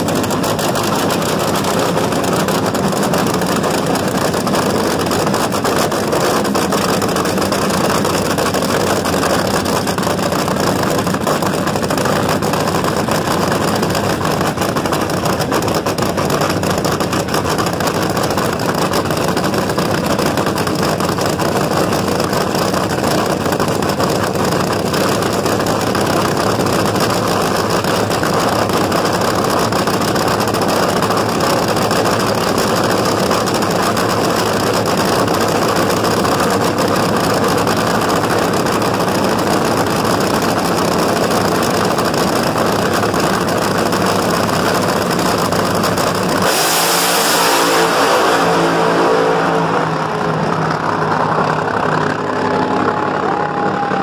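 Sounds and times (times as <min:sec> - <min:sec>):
race car engine idling loudly: 0:00.0 - 0:54.0.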